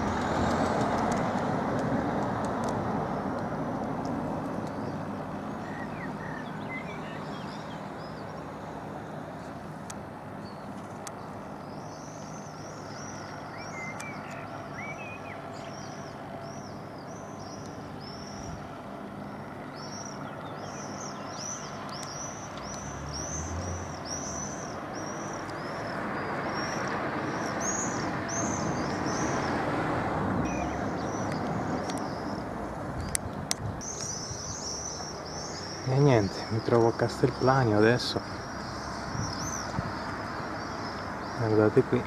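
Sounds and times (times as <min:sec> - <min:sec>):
vehicle passing: 0:00.0 - 0:09.4, 0:14.5 - 0:42.0
road traffic hum: 0:00.0 - 0:42.0
bird chirping: 0:04.7 - 0:08.6, 0:10.4 - 0:18.7, 0:19.3 - 0:29.6, 0:30.4 - 0:42.0.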